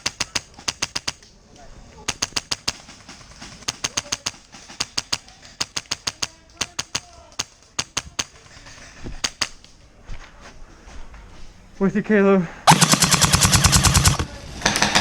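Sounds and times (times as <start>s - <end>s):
airsoft guns firing: 0.0s - 10.0s, 12.6s - 15.0s.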